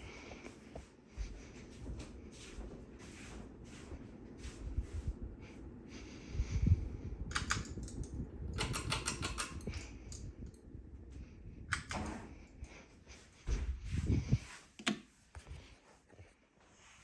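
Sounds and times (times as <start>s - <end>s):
ceiling fan running: 0.0s - 17.0s.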